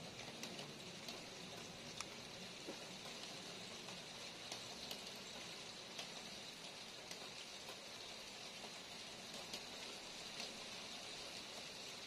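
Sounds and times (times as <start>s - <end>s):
light rain falling: 0.0s - 12.0s
raindrops ticking: 0.0s - 12.0s.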